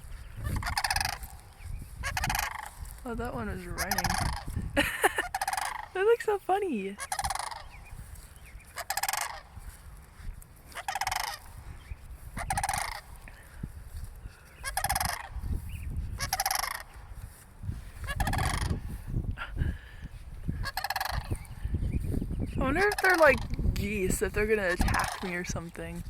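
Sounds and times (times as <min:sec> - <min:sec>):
cranes calling: 0:00.0 - 0:19.1, 0:19.8 - 0:21.7, 0:22.5 - 0:25.7.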